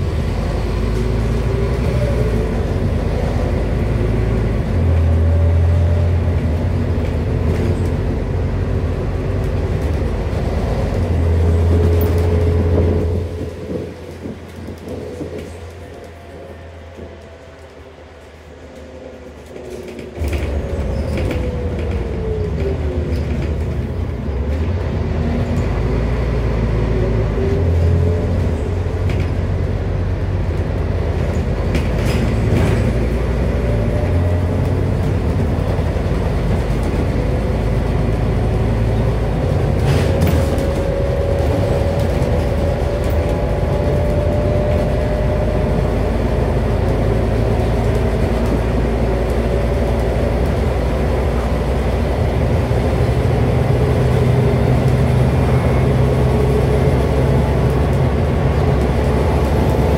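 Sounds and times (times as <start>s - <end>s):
bus diesel engine droning: 0.0s - 59.9s
road noise: 0.0s - 59.9s.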